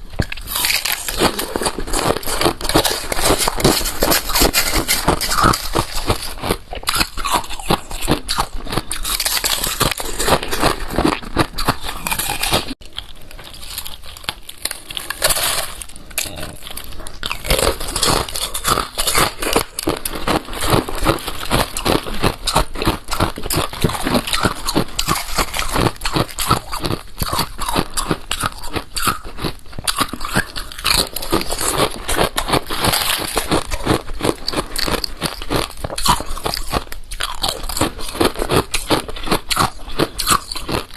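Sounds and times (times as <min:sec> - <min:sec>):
chewing crunching ice: 0:00.0 - 0:40.9.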